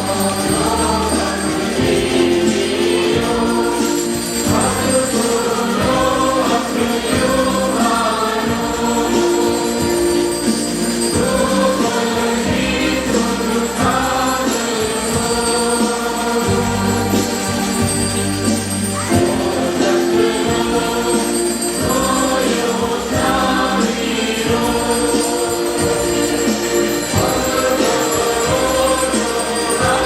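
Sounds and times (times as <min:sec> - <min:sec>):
choir singing a hymn: 0:00.0 - 0:30.0
instrumental accompaniment: 0:00.0 - 0:30.0.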